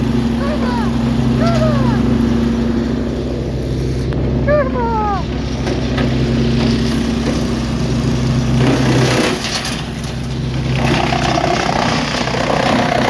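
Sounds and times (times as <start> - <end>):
wood chipper running: 0.0 - 13.0.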